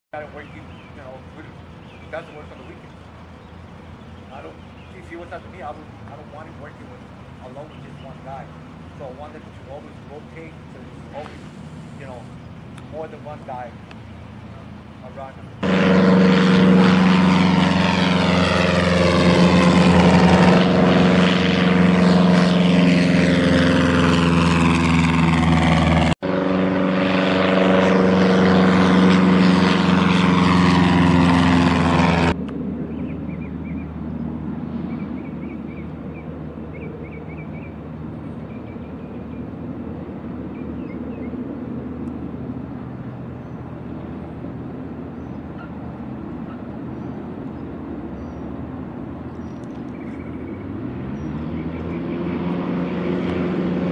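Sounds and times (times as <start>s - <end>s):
propeller plane engine: 0.1s - 53.9s.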